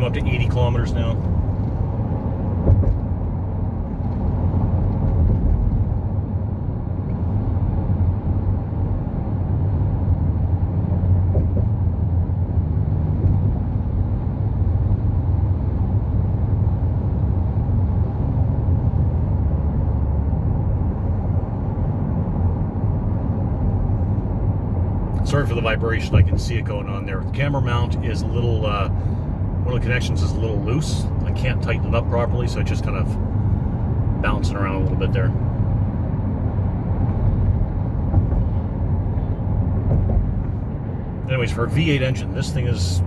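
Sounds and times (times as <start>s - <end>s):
road and drivetrain rumble: 0.0s - 43.0s.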